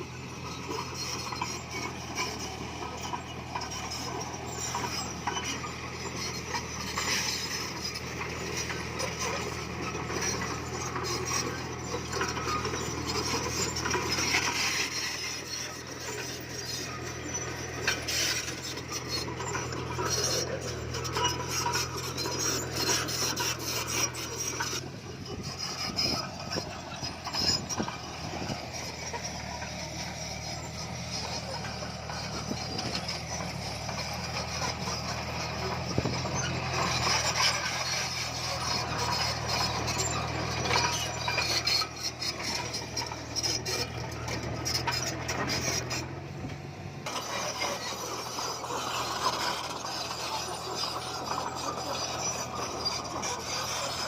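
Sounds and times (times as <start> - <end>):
bulldozer diesel engine running: 0.0 - 54.0
steel tracks grinding: 0.0 - 54.0
stone scraping and clinking: 0.6 - 46.1, 47.0 - 54.0.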